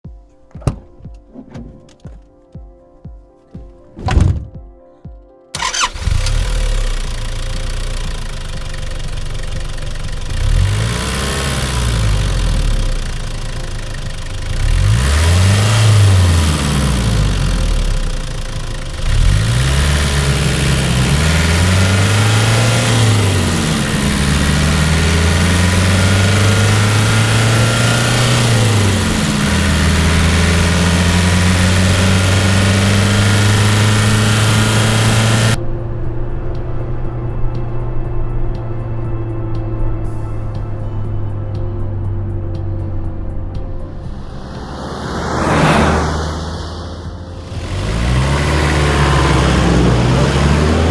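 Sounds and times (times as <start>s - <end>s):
diesel engine idling and revving: 5.6s - 50.9s.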